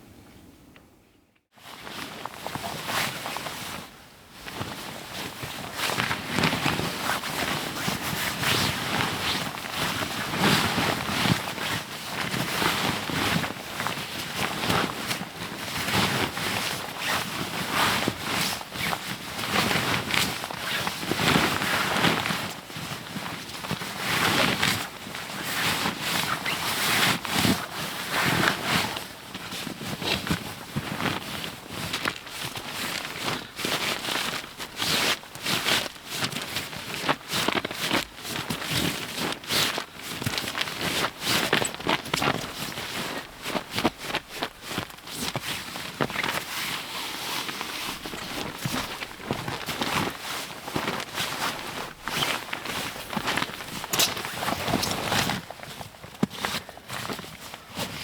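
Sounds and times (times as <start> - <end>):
camping gear rustling and crinkling: 1.8 - 58.0.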